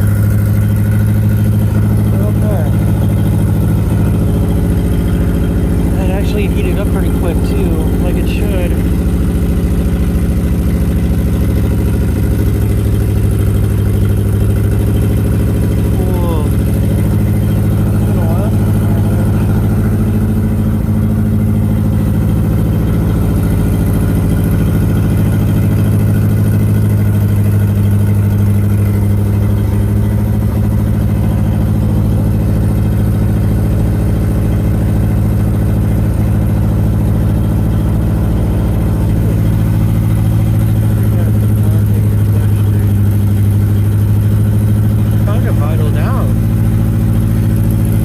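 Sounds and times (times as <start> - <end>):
car engine running steadily: 0.0 - 48.0.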